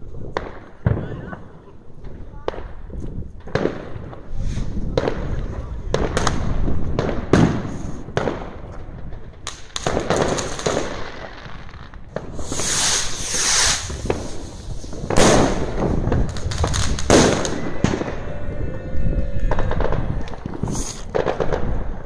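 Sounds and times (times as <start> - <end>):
fireworks bangs: 0.0 - 22.0
firework hissing and crackling: 1.4 - 18.2, 19.5 - 22.0.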